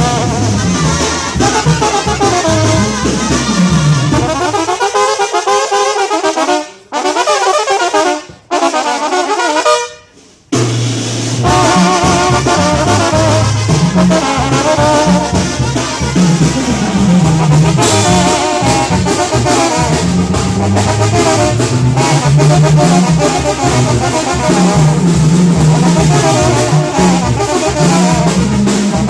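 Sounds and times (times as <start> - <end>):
bass line: 0.0 - 4.9, 10.5 - 29.0
drum hits: 0.0 - 5.1, 10.5 - 29.0
brass band playing: 0.0 - 29.0.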